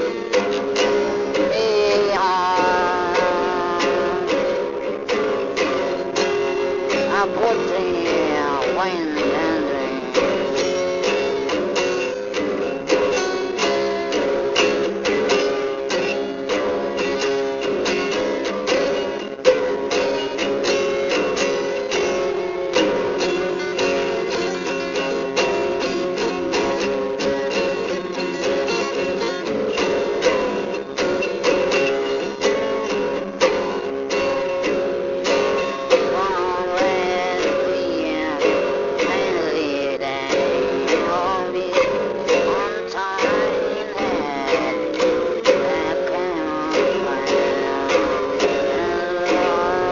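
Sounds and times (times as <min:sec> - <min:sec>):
strummed acoustic guitar: 0:00.0 - 0:49.9.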